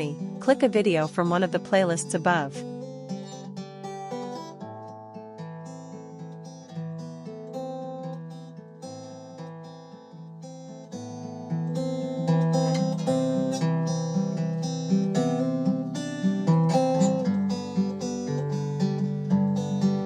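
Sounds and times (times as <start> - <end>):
acoustic guitar playing chords: 0.0 - 20.0.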